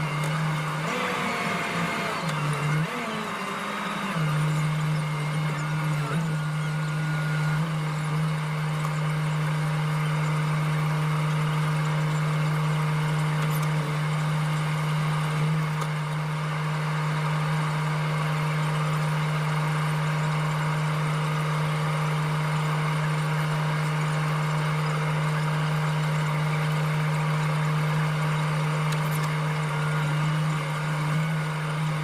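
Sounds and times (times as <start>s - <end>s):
motor running steadily: 0.0s - 32.0s.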